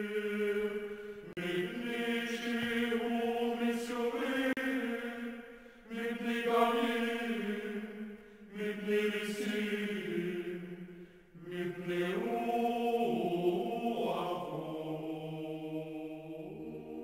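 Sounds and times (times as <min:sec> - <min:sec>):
slow liturgical vocal chant: 0:00.0 - 0:17.0.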